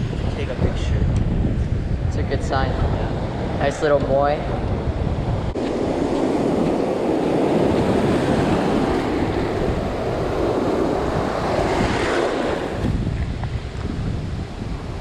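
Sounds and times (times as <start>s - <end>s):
shallow surf washing: 0.0s - 15.0s
wind buffeting microphone: 0.0s - 15.0s.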